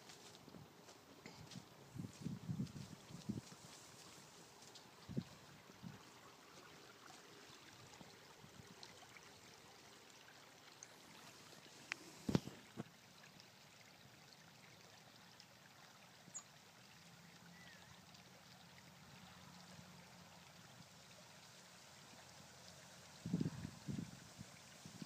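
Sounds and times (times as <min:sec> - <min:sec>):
faint outdoor hiss: 0:00.0 - 0:25.0.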